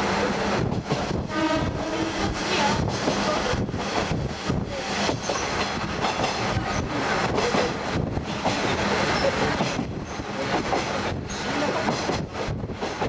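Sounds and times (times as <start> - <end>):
train wheels clattering on rails: 0.7 - 13.0.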